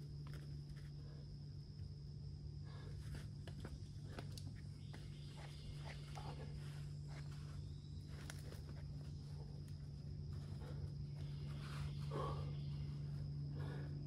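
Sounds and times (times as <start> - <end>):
high insect drone: 0.0 - 14.0
low hum: 0.0 - 14.0.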